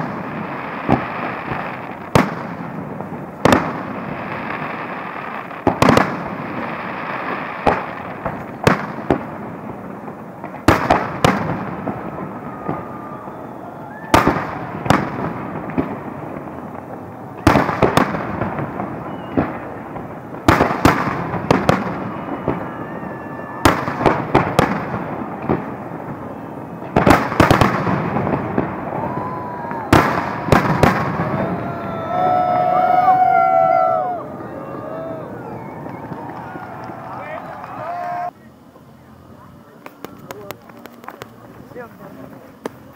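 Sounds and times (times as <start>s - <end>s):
firework bangs: 0.0s - 38.3s
hiss and crackle of fireworks: 0.0s - 42.9s.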